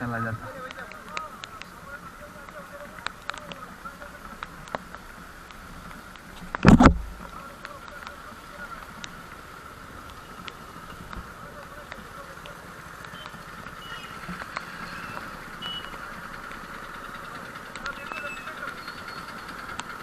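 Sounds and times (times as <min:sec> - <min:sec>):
road traffic hiss: 0:00.0 - 0:20.0
faint clicks: 0:00.5 - 0:20.0.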